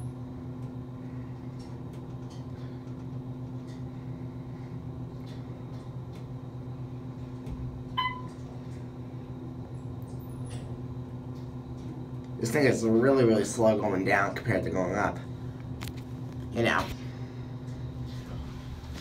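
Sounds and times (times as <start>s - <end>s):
elevator humming: 0.0s - 19.0s.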